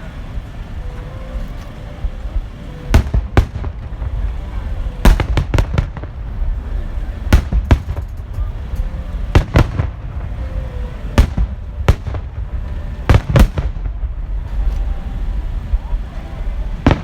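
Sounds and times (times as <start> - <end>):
low rumble of bursts: 0.0 - 17.0
fireworks bangs: 2.0 - 17.0.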